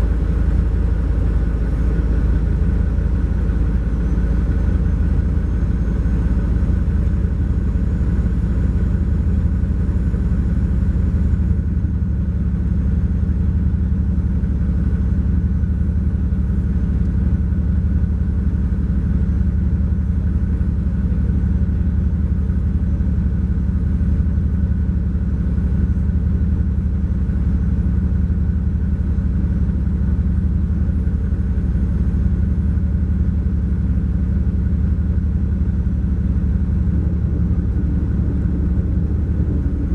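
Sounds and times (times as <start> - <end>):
diesel coach engine rumbling: 0.0 - 39.9.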